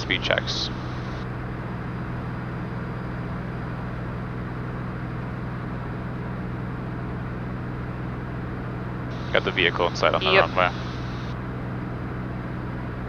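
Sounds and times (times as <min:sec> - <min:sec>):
propeller engine droning in cockpit: 0:00.0 - 0:13.0.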